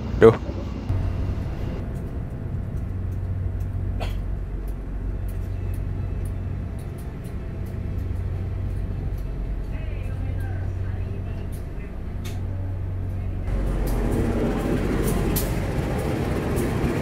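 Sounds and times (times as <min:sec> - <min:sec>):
train hum and rumble: 0:00.0 - 0:17.0.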